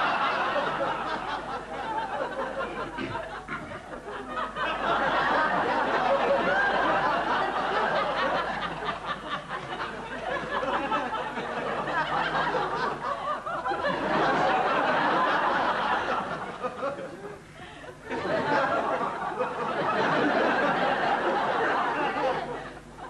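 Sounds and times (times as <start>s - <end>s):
studio audience laughing: 0.0s - 23.0s.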